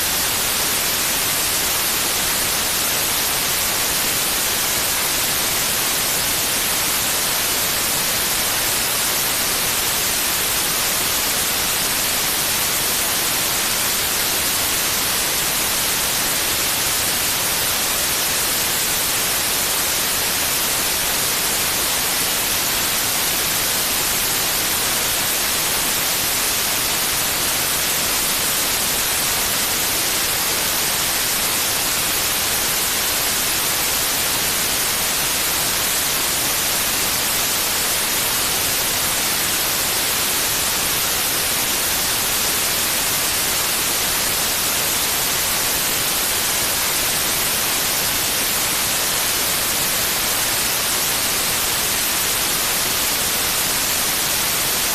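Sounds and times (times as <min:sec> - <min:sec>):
white noise hiss: 0:00.0 - 0:54.9.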